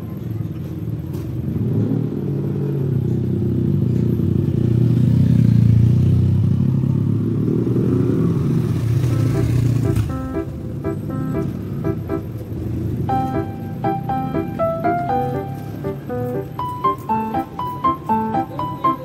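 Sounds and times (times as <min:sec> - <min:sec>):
vehicle engine low rumble: 0:00.0 - 0:19.0.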